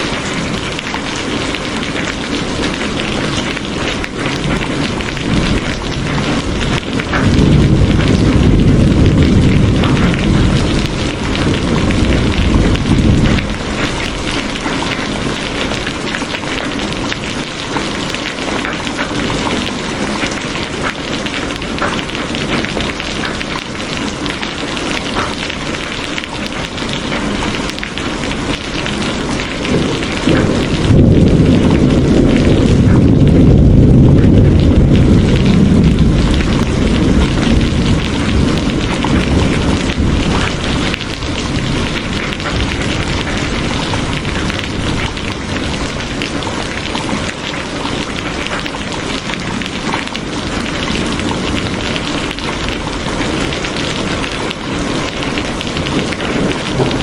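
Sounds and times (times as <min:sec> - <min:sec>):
low thunder rumble: 0:00.0 - 0:57.0
rain falling: 0:00.0 - 0:57.0.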